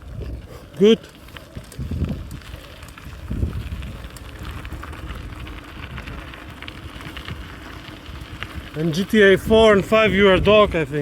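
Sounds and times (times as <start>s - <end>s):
light crackling: 0.0s - 11.0s
wind buffeting microphone: 0.0s - 11.0s.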